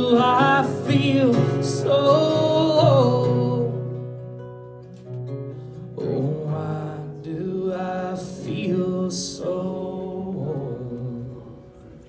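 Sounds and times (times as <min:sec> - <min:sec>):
man singing wordless melody: 0:00.0 - 0:04.1, 0:05.9 - 0:12.0
acoustic guitar chord ringing: 0:00.0 - 0:12.0.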